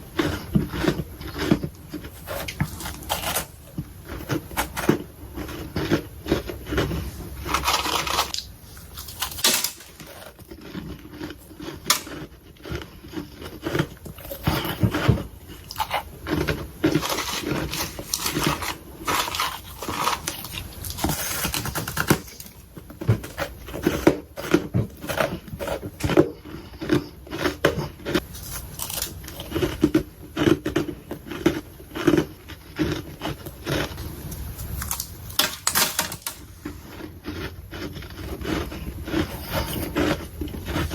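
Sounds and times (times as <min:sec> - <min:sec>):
frost being chewed: 0:00.0 - 0:40.9.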